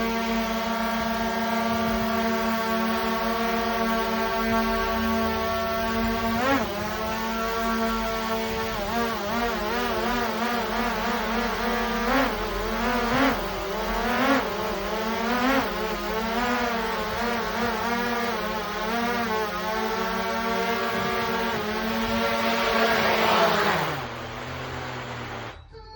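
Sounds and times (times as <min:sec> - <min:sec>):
quadcopter propellers whining: 0:00.0 - 0:25.9.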